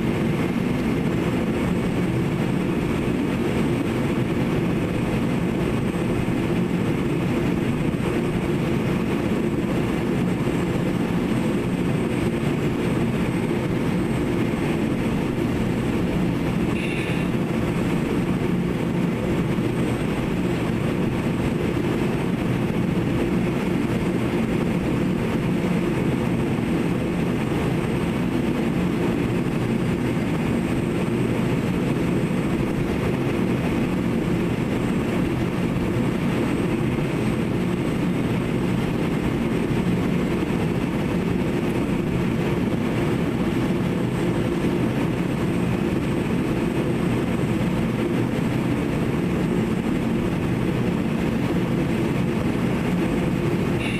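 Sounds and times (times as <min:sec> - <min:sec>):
model excavator humming: 0:00.0 - 0:53.9.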